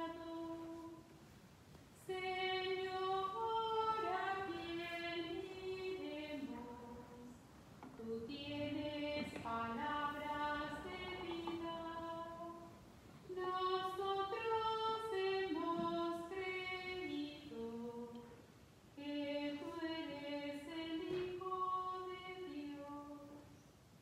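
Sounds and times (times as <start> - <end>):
woman singing a hymn: 0.0 - 1.2, 2.0 - 23.6.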